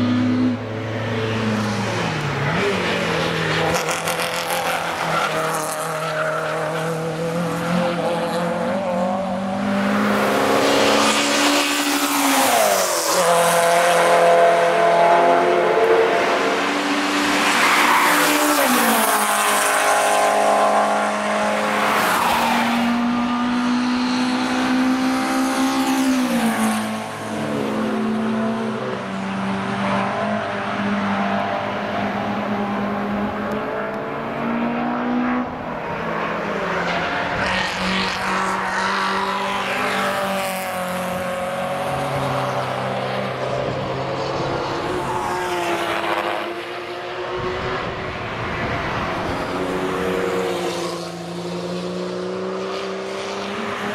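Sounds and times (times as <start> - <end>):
race car engine revving: 0.0 - 53.9.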